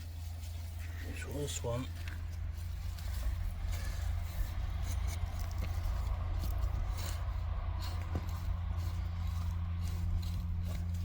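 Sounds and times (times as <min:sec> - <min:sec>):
digging scrapes and knocks in soil: 0:00.0 - 0:11.0
steady low rumble: 0:00.0 - 0:11.0.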